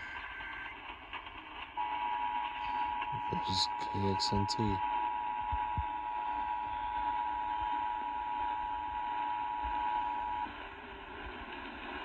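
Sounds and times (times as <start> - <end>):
radio static hiss: 0.0 - 11.4.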